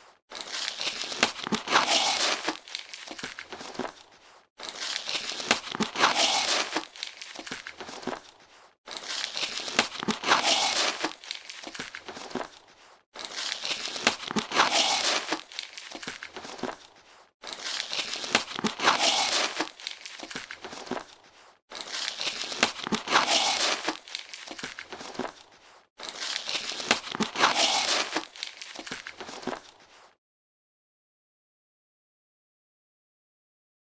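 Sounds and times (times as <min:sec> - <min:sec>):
cardboard box tape tearing: 0:00.3 - 0:30.1.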